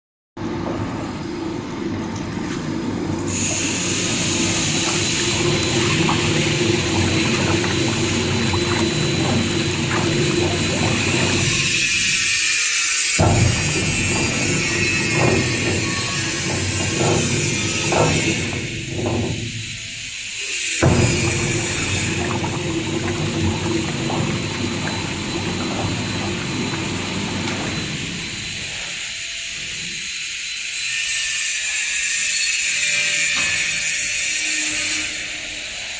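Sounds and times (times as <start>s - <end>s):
paddle mixer machine drone: 0.4s - 30.0s.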